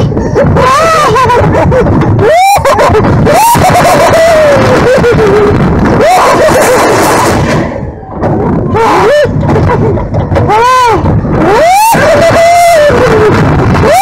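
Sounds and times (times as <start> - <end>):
ride rumble: 0.0 - 14.0
roller coaster riders screaming: 0.0 - 14.0
wind buffeting microphone: 0.0 - 14.0.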